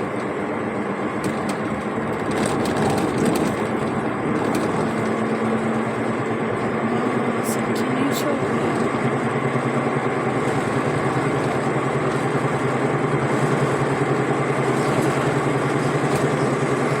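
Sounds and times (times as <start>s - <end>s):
car engine hum: 0.0s - 17.0s
road and wind noise: 0.0s - 17.0s.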